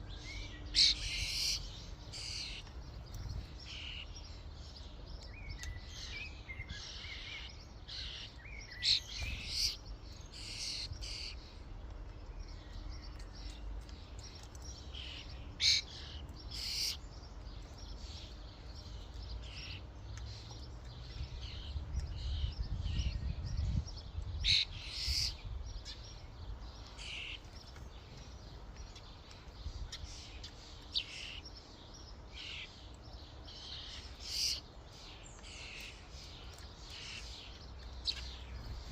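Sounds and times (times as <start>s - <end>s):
starlings chirping and whistling: 0.0s - 11.5s, 12.4s - 38.9s.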